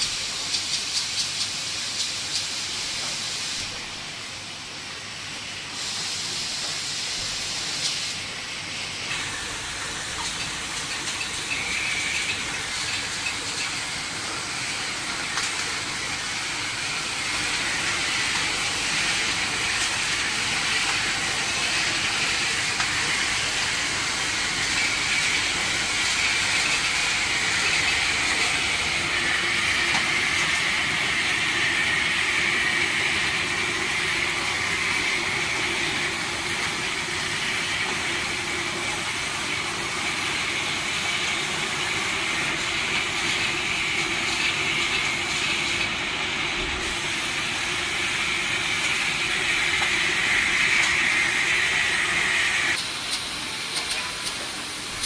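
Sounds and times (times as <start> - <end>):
bottle-filling machine whirring: 0.0 - 55.0.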